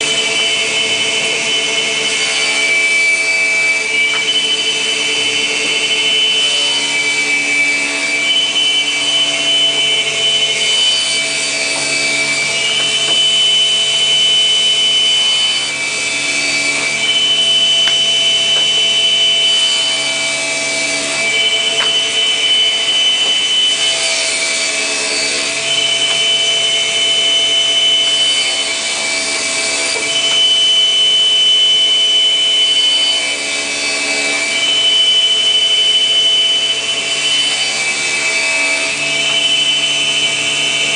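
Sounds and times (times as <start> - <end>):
high whine: 0.0 - 40.9
woodworking machine cutting wood: 0.0 - 40.9.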